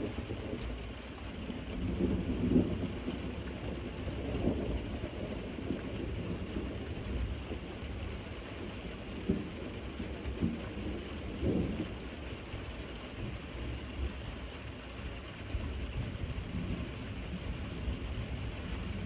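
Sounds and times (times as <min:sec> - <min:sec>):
thunder rumble: 0:00.0 - 0:14.5, 0:15.1 - 0:19.0
rain hiss: 0:00.0 - 0:19.0.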